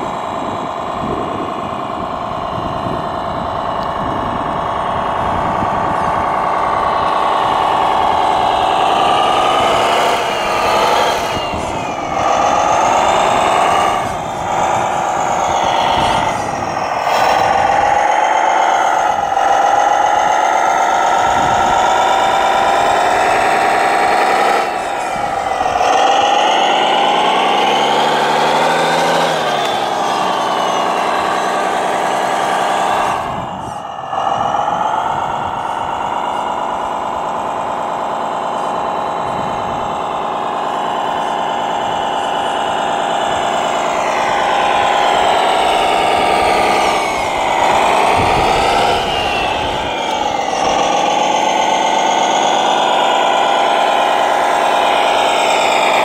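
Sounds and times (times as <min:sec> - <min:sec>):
simulated diesel engine through speaker: 0:00.0 - 0:56.0.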